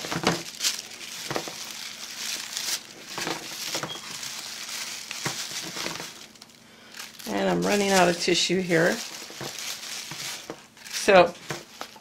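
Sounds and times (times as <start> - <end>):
tissue paper rustling and crinkling: 0.0 - 12.0.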